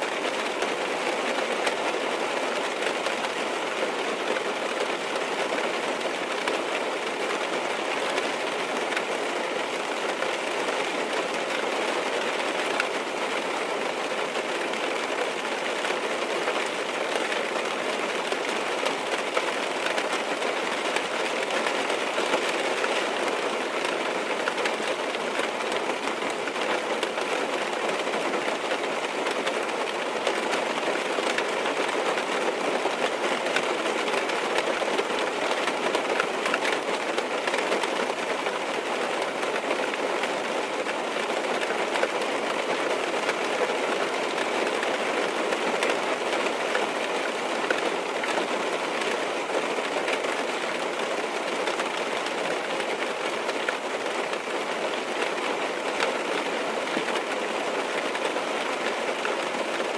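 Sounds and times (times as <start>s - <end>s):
rain on car roof from inside: 0.1s - 59.9s.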